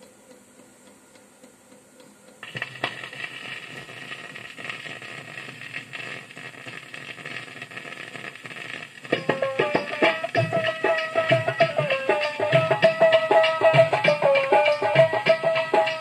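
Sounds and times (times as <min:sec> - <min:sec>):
vinyl surface hiss and crackle: 0:00.0 - 0:16.0
record music with tabla-like percussion: 0:02.4 - 0:16.0.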